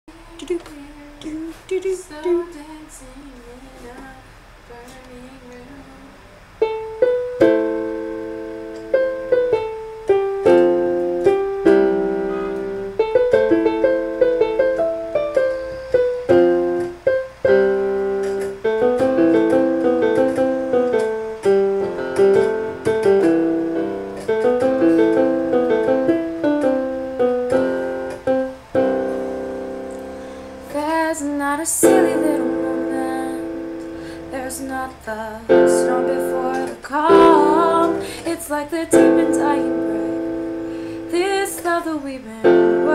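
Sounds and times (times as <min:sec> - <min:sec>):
piano playing chords and melody: 0:06.6 - 0:42.9.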